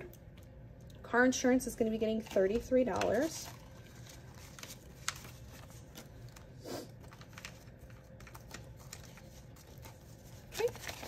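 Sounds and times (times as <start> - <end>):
banknotes rustling: 2.1 - 11.0.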